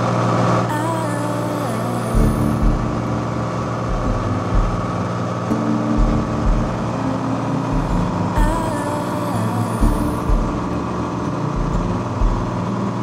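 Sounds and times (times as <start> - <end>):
low rumble: 0.8 - 12.8.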